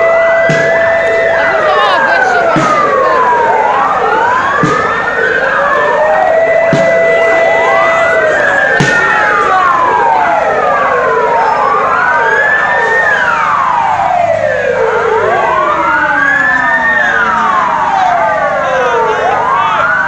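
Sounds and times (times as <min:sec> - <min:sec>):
police sirens wailing: 0:00.0 - 0:20.0.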